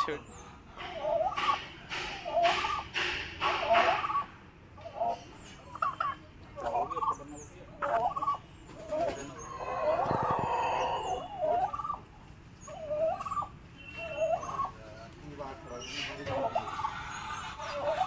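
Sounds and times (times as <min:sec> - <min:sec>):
turkeys calling: 0:00.0 - 0:18.0
turkey gobble: 0:00.7 - 0:07.2, 0:07.8 - 0:18.0.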